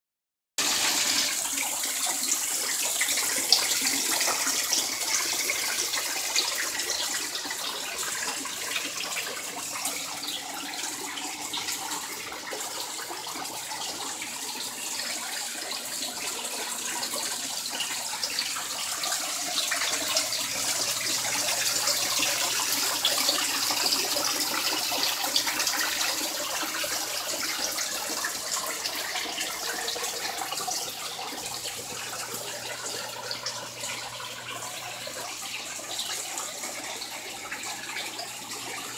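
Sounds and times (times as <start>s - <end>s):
waterfall pouring into a pond: 0.6s - 38.9s.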